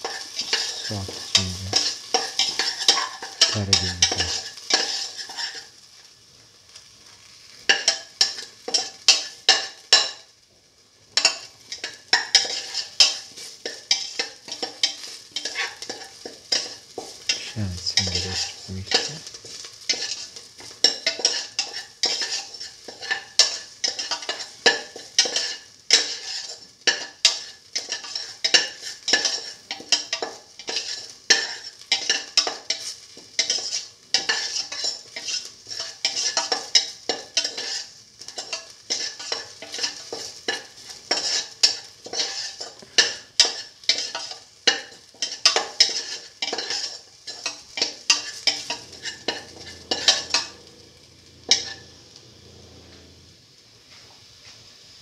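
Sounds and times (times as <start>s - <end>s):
metal spoon scraping a pan: 0.0s - 5.7s, 11.2s - 50.8s, 51.4s - 52.0s
steady sizzle: 0.0s - 55.0s.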